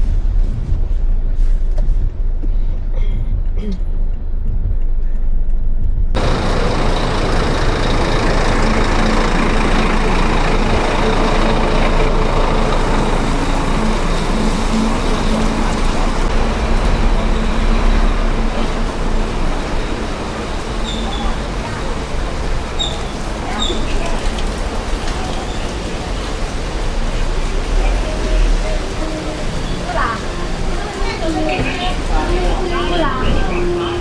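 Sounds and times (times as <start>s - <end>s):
faint engine hum: 1.4s - 34.0s
hiss of passing vehicles: 6.2s - 34.0s.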